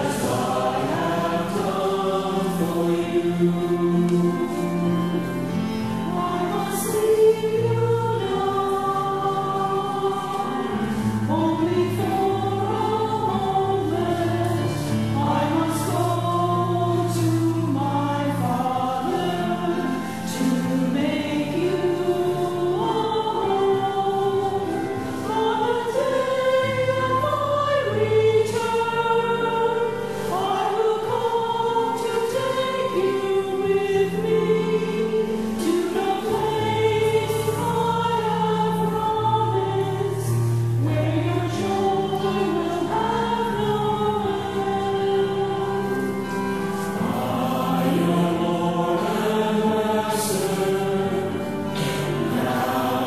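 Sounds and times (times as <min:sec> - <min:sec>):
choir singing a hymn: 0:00.0 - 0:53.0.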